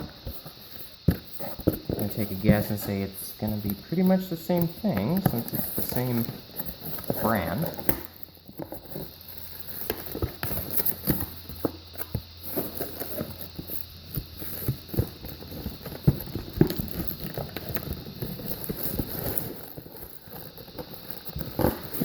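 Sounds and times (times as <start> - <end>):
cardboard and plastic rustling: 0.0 - 22.0.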